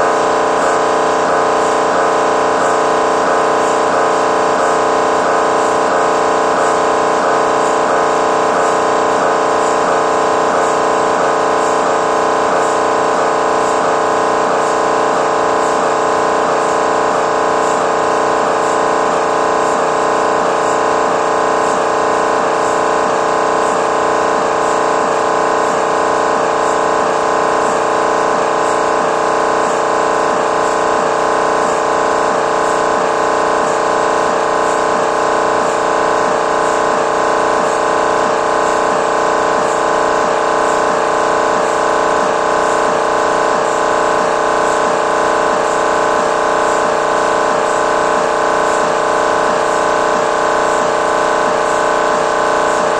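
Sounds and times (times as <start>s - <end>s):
mri scanner pulsing buzz: 0.0s - 52.9s.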